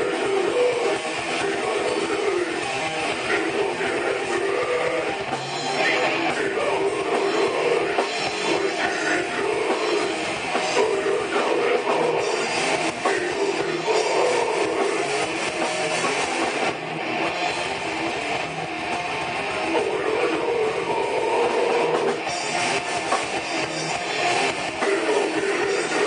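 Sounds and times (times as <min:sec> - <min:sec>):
distorted electric guitars: 0:00.0 - 0:26.0.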